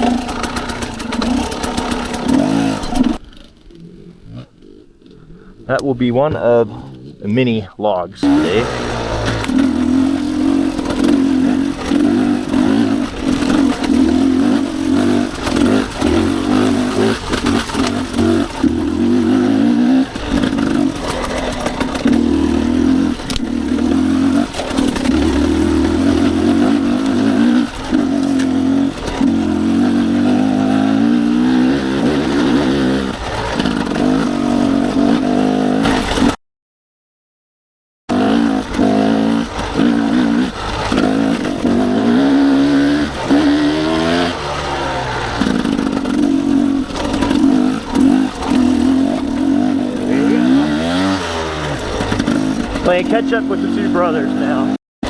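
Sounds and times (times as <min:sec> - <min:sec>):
dirt bike engine revving: 0:00.0 - 0:36.4, 0:38.1 - 0:54.8.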